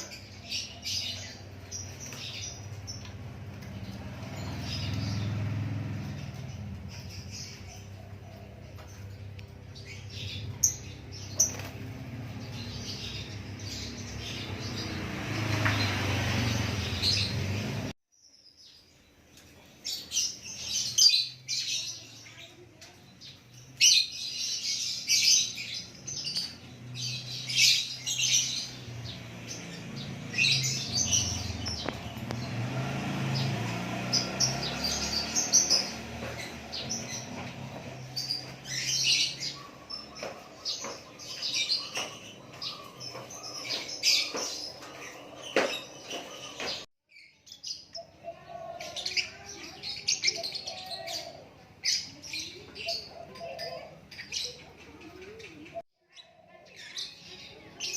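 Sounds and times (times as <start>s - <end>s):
bird singing bright varied phrases: 0.0s - 57.9s.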